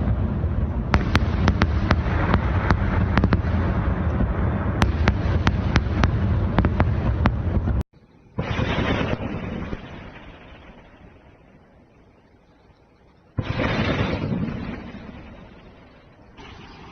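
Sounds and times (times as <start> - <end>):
fireworks booming and cracking: 0.0 - 7.8, 8.4 - 11.4, 13.4 - 16.9.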